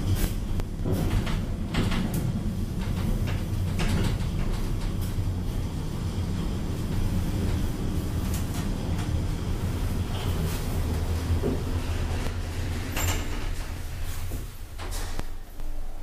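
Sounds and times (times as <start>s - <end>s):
elevator cab low rumble: 0.0s - 16.0s.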